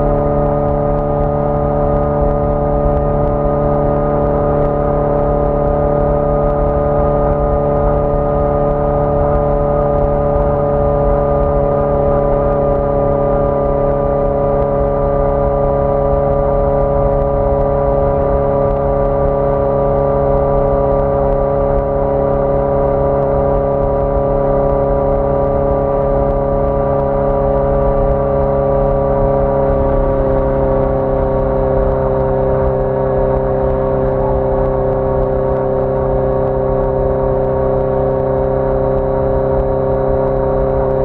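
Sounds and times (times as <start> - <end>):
motorcycle engine cruising: 0.0 - 41.0.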